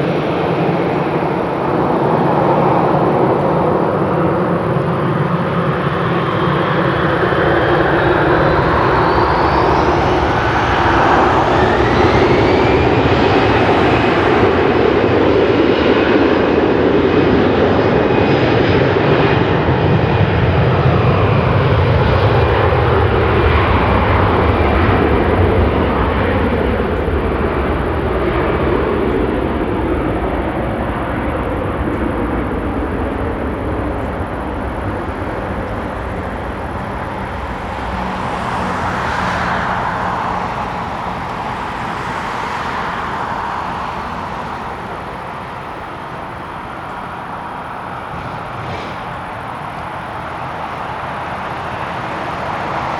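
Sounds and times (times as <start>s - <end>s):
jet engines spooling up: 0.0s - 52.9s.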